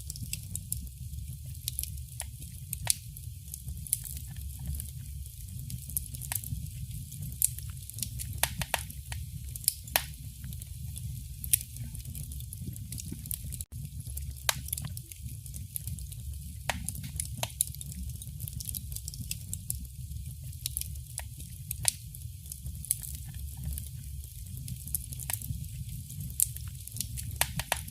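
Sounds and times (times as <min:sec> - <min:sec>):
fire crackling and popping: 0:00.0 - 0:27.9
low rumble of flames: 0:00.0 - 0:27.9.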